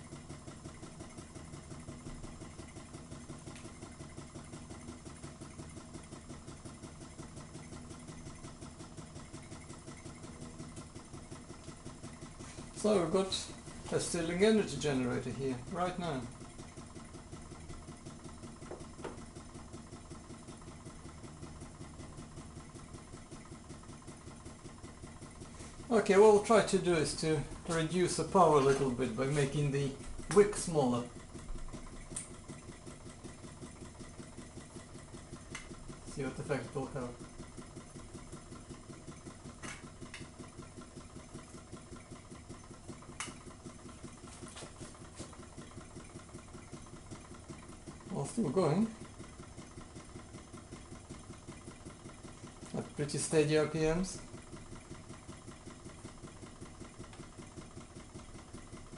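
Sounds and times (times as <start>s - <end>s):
stirling engine rhythmic pumping: 0.0s - 58.9s.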